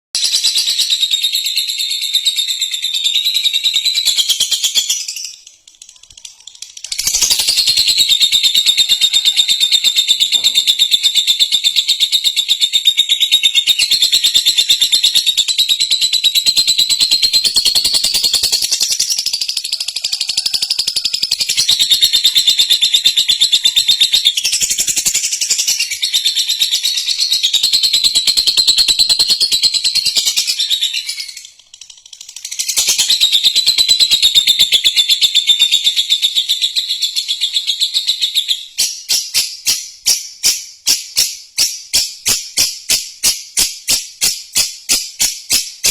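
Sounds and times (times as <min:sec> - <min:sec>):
bird chattering shrill chirps: 0:00.2 - 0:45.9.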